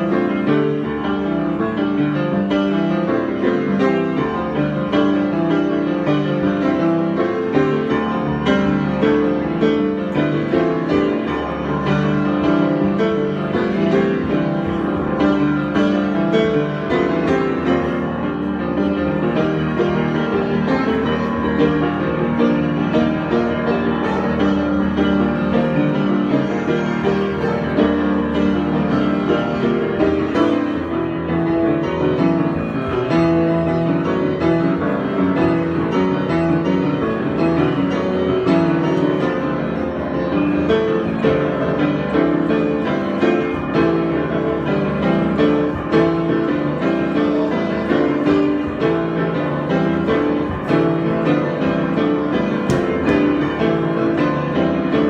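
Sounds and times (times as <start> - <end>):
solo piano improvisation: 0.0 - 55.0.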